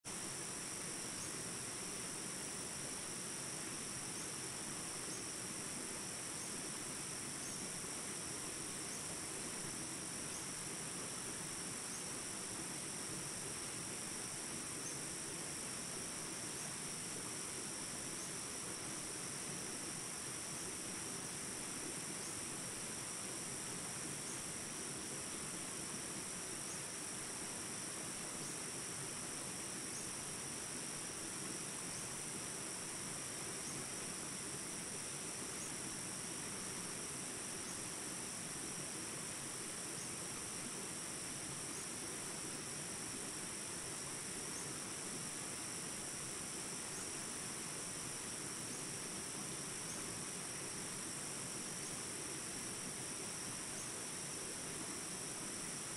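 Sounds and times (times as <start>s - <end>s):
faint outdoor hiss: 0.0s - 55.9s
insect chorus trilling: 0.0s - 55.9s.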